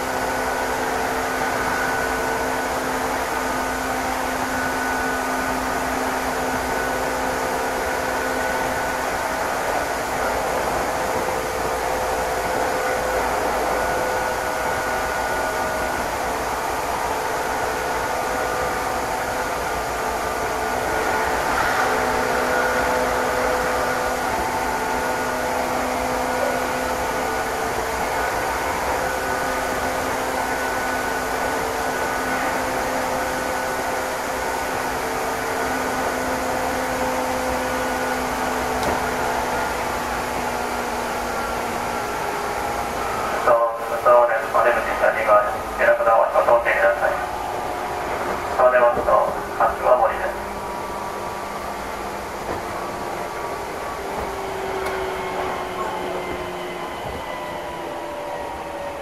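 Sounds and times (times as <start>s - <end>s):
train wheels rumbling on rail: 0.0s - 59.0s
whining tones from running gear: 0.0s - 59.0s.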